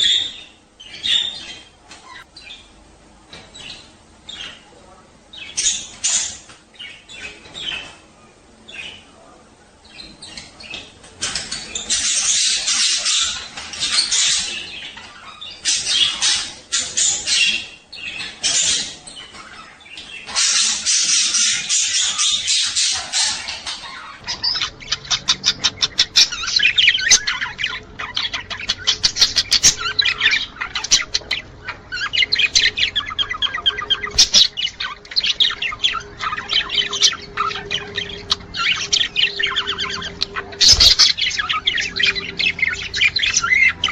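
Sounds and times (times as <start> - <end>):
budgerigars chattering: 0.0 - 43.9
faint steady hum: 0.0 - 43.9.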